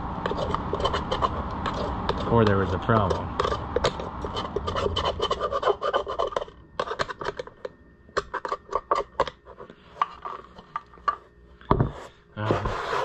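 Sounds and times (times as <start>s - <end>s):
screwdriver scraping and clicking: 0.3s - 11.2s.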